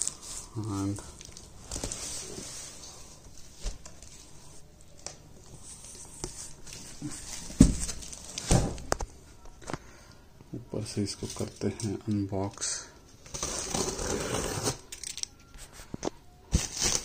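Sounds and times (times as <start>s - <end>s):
plastic wrapping rustling: 0.0s - 9.0s, 10.8s - 17.0s.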